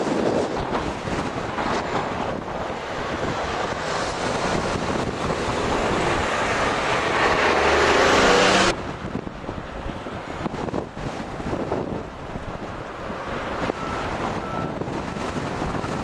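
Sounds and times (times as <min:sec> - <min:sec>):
vehicle engine and road noise: 0:00.0 - 0:16.0
wind buffeting microphone: 0:00.0 - 0:16.0.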